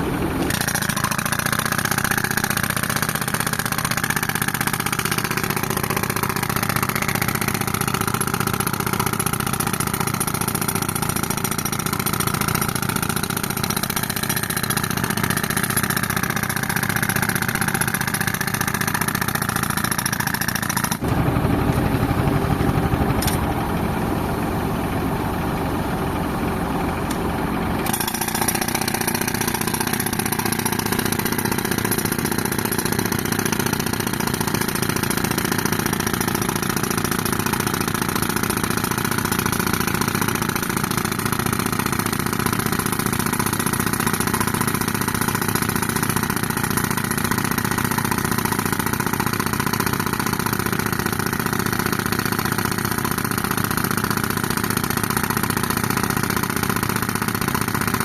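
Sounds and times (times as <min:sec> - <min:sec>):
pneumatic breaker hammering concrete: 0:00.0 - 0:23.9, 0:27.1 - 0:58.0
tractor engine running: 0:00.0 - 0:58.0.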